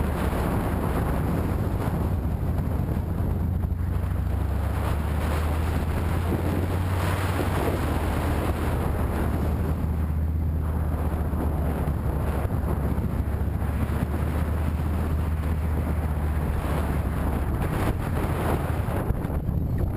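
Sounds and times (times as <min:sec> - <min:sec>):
wind on microphone: 0:00.0 - 0:19.9.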